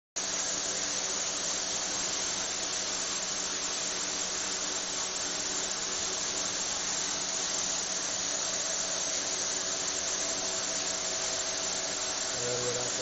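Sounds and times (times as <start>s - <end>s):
stone cutting machine hissing: 0.2s - 13.0s.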